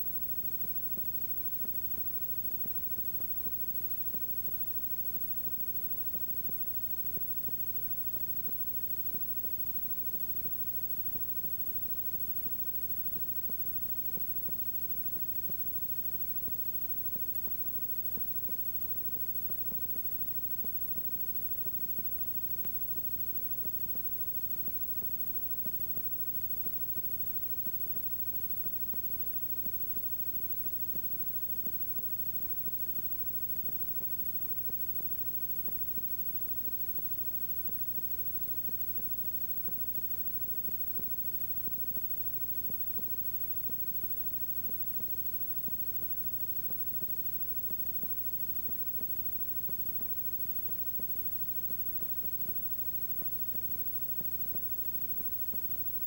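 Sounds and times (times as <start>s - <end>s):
faint scattered ticks: 0.0s - 56.0s.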